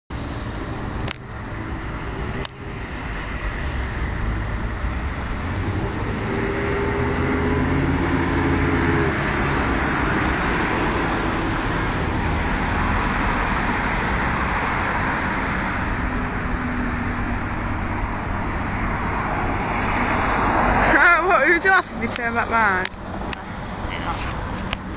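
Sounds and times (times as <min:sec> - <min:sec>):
wind: 0:00.1 - 0:24.9
water rushing: 0:00.2 - 0:24.9.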